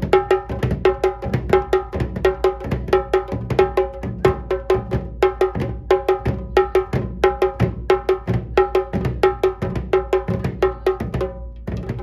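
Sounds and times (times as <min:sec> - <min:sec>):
kettle drum beaten with sticks: 0:00.0 - 0:12.0.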